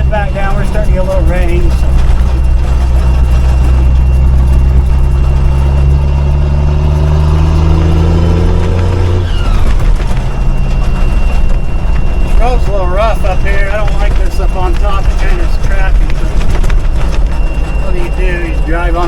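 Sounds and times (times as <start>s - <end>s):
truck engine pulling under load: 0.0s - 19.0s.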